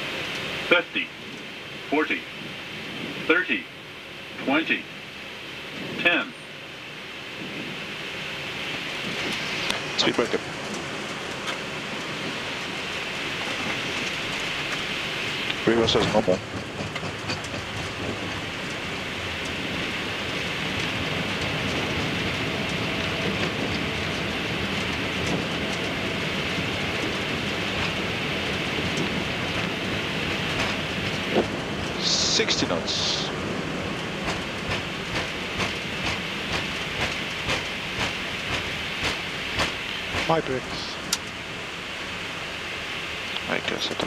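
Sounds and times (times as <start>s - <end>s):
jet engines roaring: 0.0s - 44.0s
wheels rumbling on runway: 0.0s - 44.0s.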